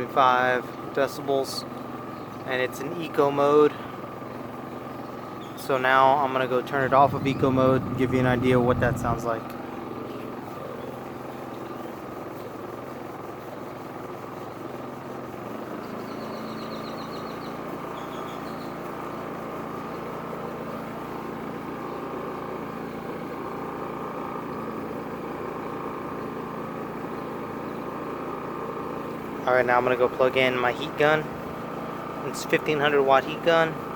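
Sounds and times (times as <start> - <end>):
generator running: 0.0 - 33.9.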